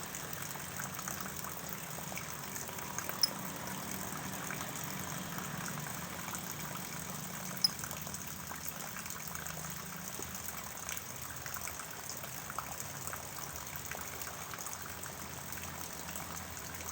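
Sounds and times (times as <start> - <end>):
rainwater trickling and dripping: 0.0 - 16.9.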